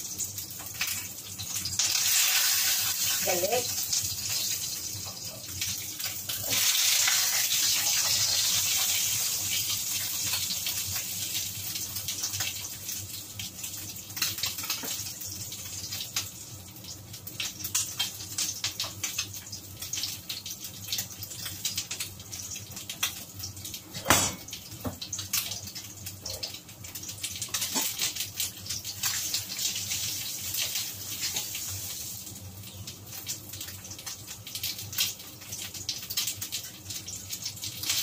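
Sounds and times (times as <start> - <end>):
meat sizzling in hot oil: 0.0 - 38.0.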